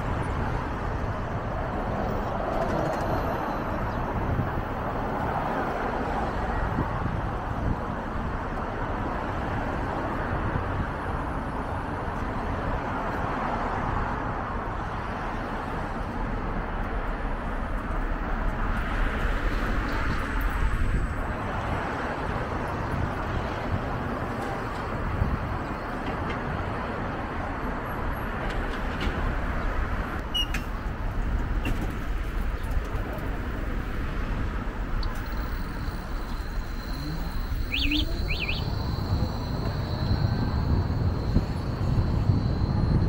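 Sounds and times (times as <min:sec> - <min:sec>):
city street traffic: 0:00.0 - 0:43.0.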